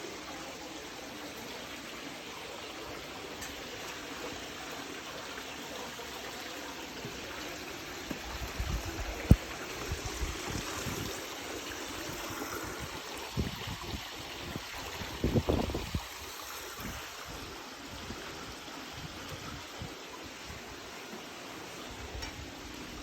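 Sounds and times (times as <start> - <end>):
meltwater trickling and dripping: 0.0 - 23.0.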